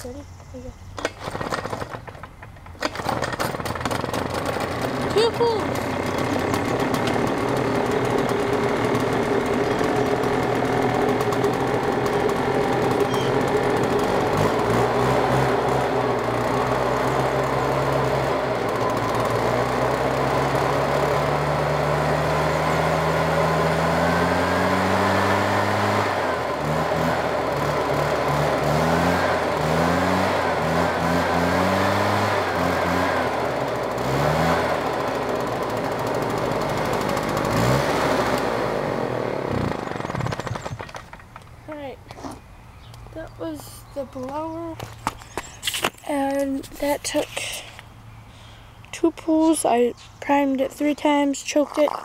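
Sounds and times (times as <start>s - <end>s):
leaf blower two-stroke engine running: 0.0s - 42.3s, 43.1s - 47.8s
fan whine: 0.0s - 51.6s.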